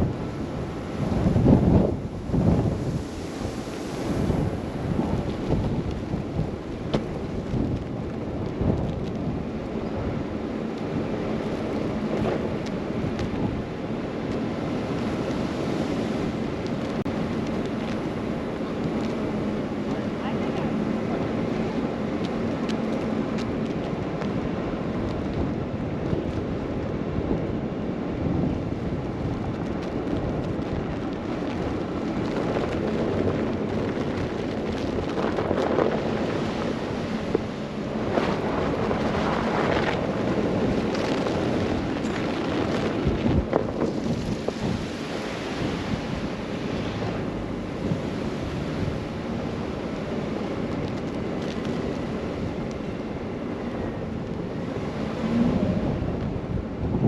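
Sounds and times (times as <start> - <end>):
blizzard wind gusting: 0.0 - 57.0
road and tyre noise: 0.0 - 57.0.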